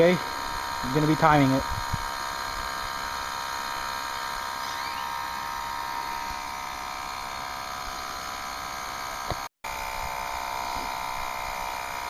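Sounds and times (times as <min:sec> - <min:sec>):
tire compressor buzzing: 0:00.0 - 0:12.0.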